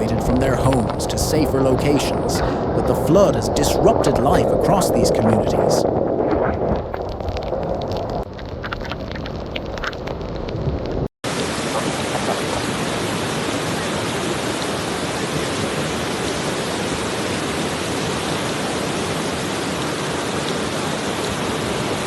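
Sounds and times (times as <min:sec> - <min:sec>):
rushing water: 0:00.0 - 0:10.1, 0:11.2 - 0:22.0.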